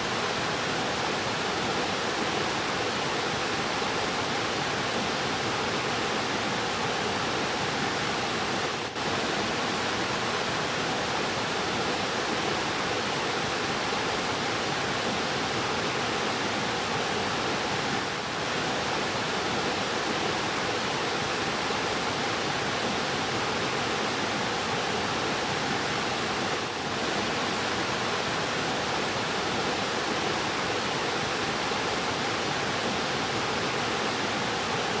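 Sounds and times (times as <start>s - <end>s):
river rushing: 0.0s - 35.0s.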